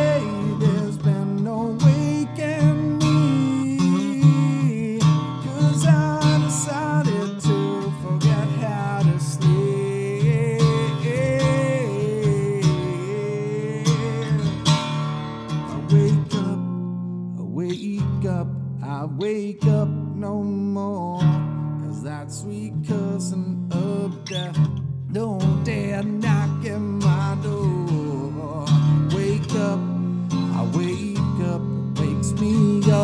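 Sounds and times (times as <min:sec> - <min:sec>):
acoustic guitar music: 0:00.0 - 0:33.0.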